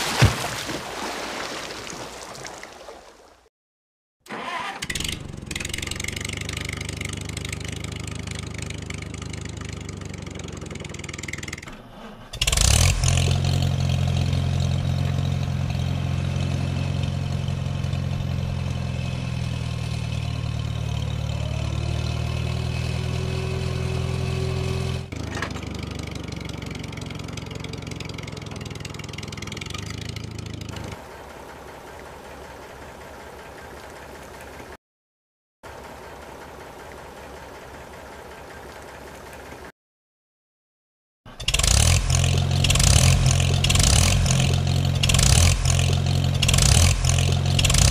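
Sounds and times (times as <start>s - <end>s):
engine running: 4.3s - 34.8s, 35.6s - 39.7s, 41.3s - 47.9s.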